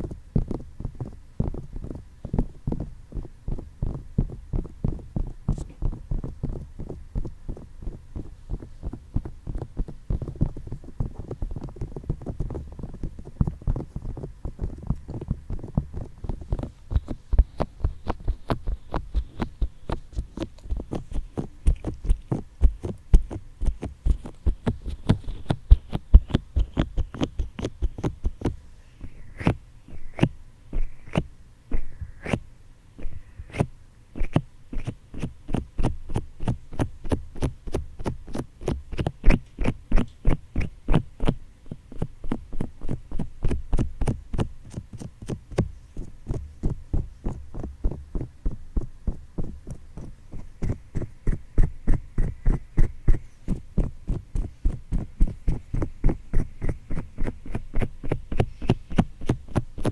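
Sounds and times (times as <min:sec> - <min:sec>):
fingertips tapping on microphone: 0:00.0 - 0:32.4, 0:33.0 - 0:59.9.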